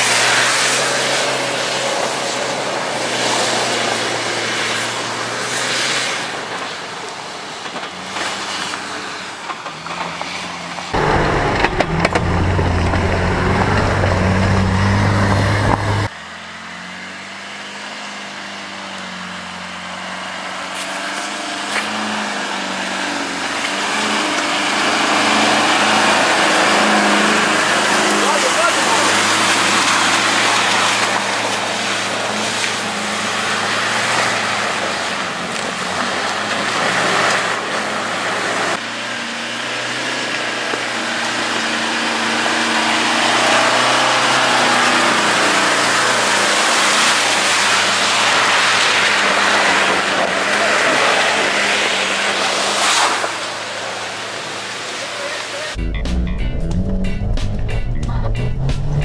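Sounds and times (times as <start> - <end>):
off-road engines running: 0.0 - 59.0.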